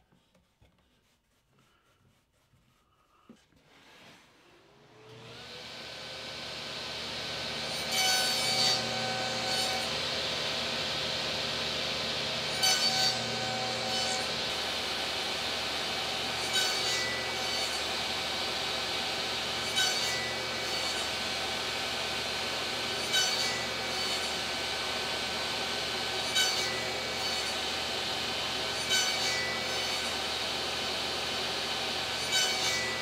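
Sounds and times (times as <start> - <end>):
table saw motor running: 4.8 - 33.0
saw blade cutting plywood: 5.0 - 33.0.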